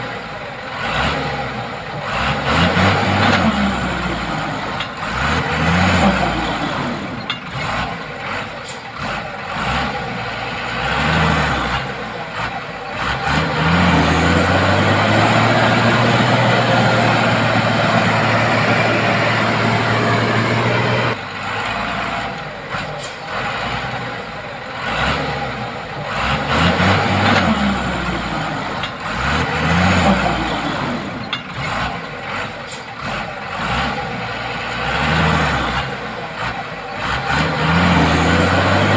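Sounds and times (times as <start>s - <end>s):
diesel truck engine revving: 0.0s - 38.9s.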